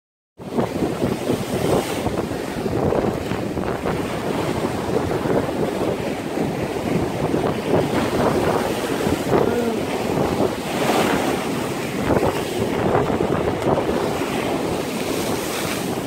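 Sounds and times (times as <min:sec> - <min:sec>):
surf breaking over rocks: 0:00.4 - 0:16.0
wind buffeting microphone: 0:00.4 - 0:16.0.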